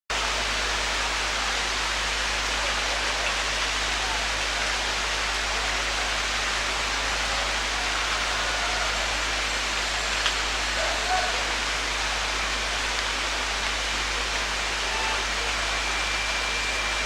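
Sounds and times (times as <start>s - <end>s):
steady rain hiss: 0.1s - 17.0s.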